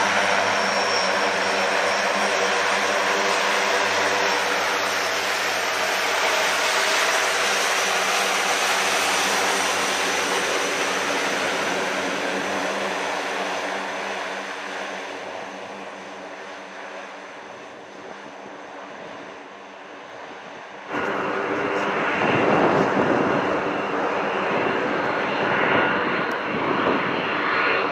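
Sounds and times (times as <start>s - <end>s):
turboprop aircraft engines droning: 0.0s - 27.9s.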